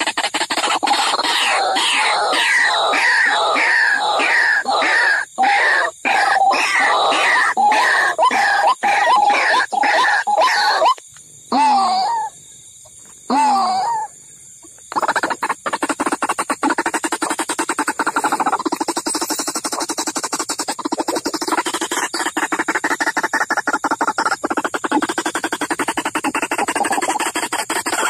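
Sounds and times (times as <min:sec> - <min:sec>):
waterhen calls: 0:00.0 - 0:12.3, 0:13.3 - 0:28.0.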